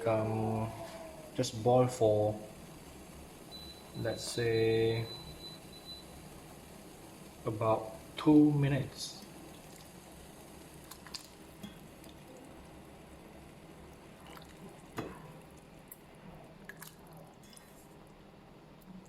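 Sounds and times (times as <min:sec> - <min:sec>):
water bubbling in a pot: 0:00.0 - 0:19.0.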